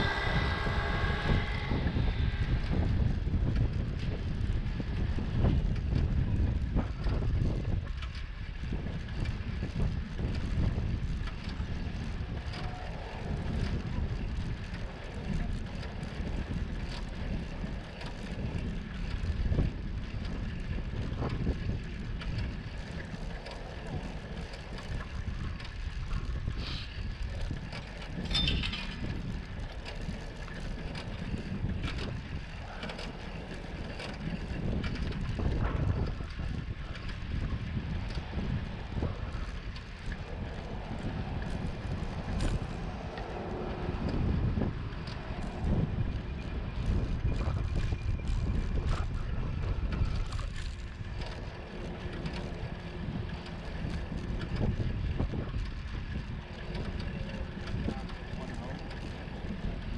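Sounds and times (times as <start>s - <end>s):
bicycle clicks and rattles: 0.0s - 59.9s
wind rumbling on microphone: 0.0s - 59.9s.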